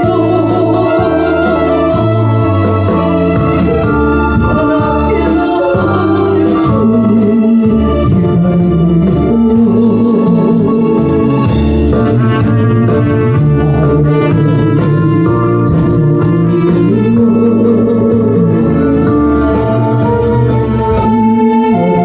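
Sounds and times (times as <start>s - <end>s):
bass line: 0.0s - 22.0s
organ-like chords: 0.0s - 22.0s.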